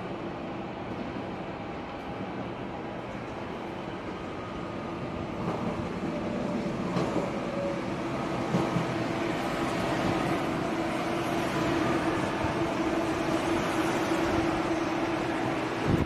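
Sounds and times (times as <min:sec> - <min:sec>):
electric train running on track: 0:00.0 - 0:16.0.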